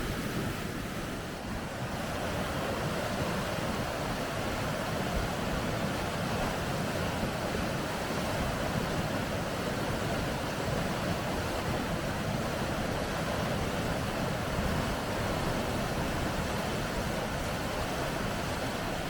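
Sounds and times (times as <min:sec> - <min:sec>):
water rushing over rapids: 0:00.0 - 0:19.0.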